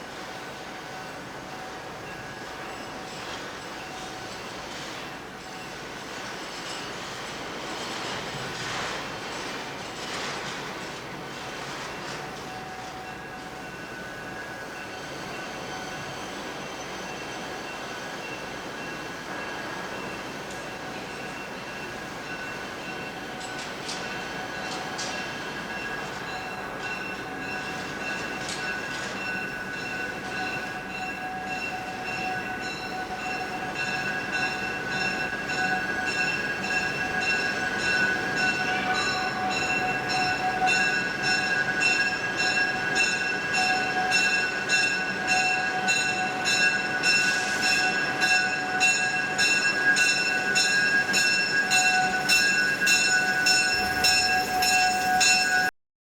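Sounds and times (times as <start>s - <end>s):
train clacking over rail joints: 0.0s - 55.7s
train wheels squealing: 0.0s - 55.7s.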